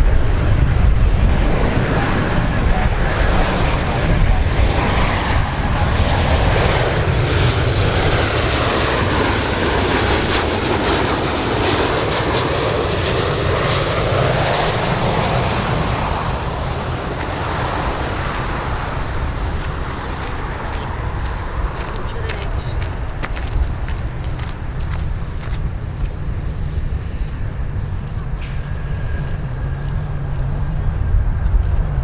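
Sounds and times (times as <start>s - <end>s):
airplane engines running loudly: 0.0s - 32.0s.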